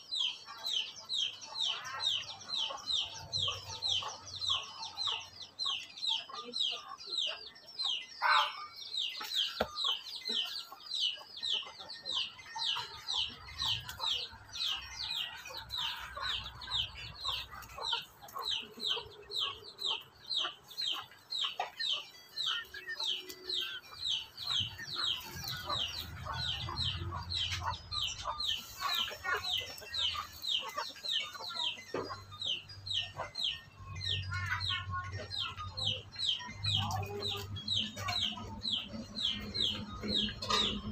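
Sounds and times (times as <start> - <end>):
chick peeping: 0.0 - 40.9.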